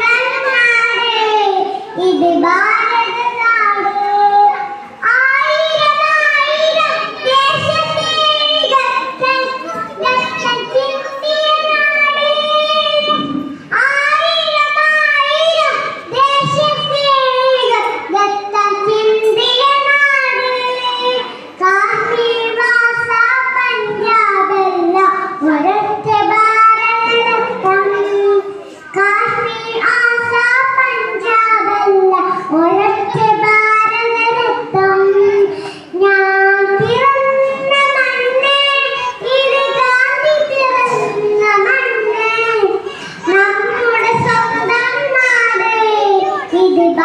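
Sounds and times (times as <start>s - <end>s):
girl singing into a microphone: 0.0s - 47.0s.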